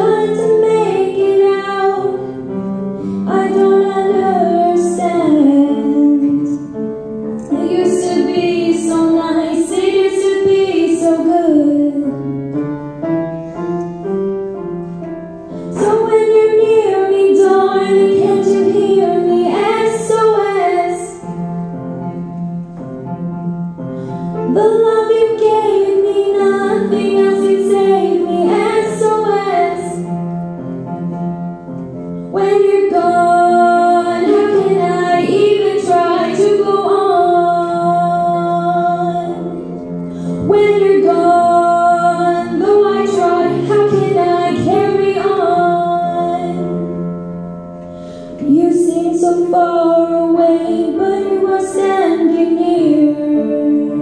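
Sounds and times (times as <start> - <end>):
instrumental accompaniment: 0.0 - 54.0.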